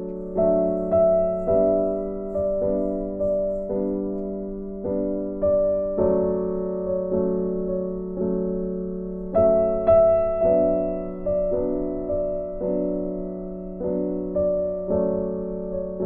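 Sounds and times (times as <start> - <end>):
slow keyboard chords: 0.0 - 16.0.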